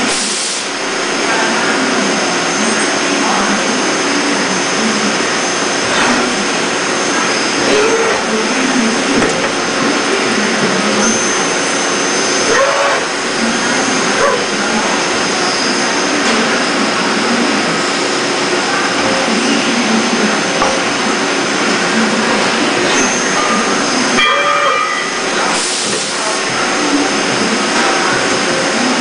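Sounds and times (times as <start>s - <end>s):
machine whirring hiss: 0.0s - 24.2s, 24.8s - 29.0s.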